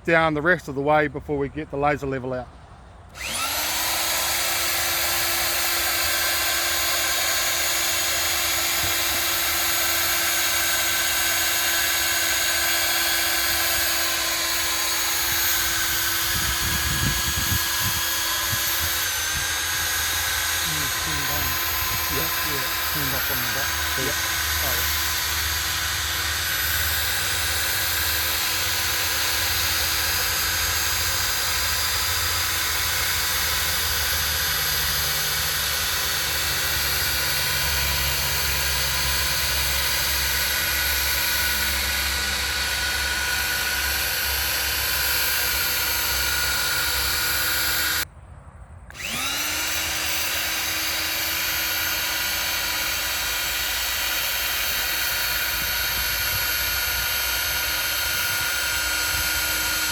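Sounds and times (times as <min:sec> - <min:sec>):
ground screw machine running: 0:03.1 - 0:48.1, 0:48.9 - 0:59.9.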